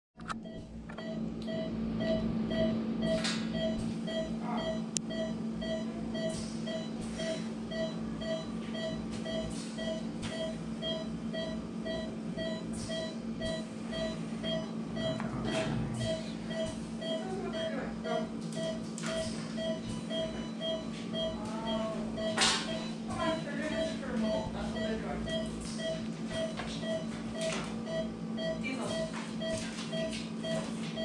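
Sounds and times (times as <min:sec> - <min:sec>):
low equipment hum: 0:00.2 - 0:31.0
patient monitor beeping: 0:00.2 - 0:31.0.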